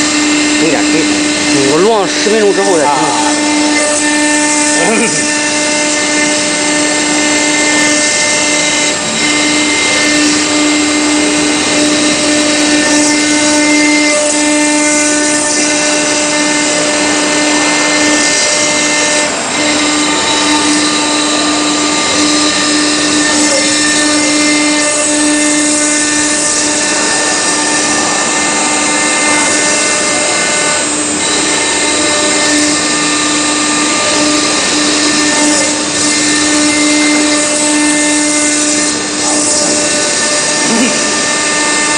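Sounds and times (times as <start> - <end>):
bit carving stone: 0.0 - 41.9
router spindle whining: 0.0 - 41.9.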